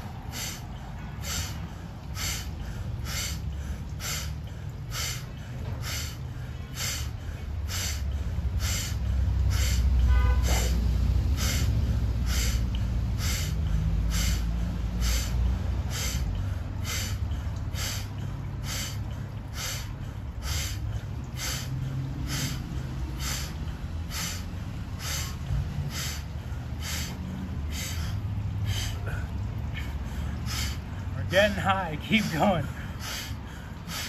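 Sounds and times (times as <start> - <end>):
forceful rhythmic breathing: 0.0 - 34.0
low steady rumble: 0.0 - 34.0.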